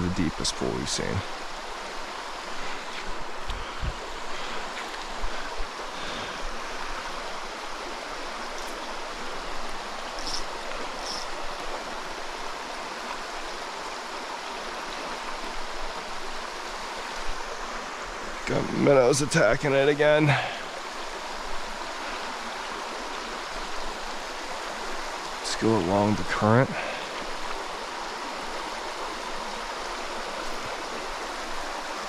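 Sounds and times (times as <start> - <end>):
stream rushing over rock: 0.0 - 32.0.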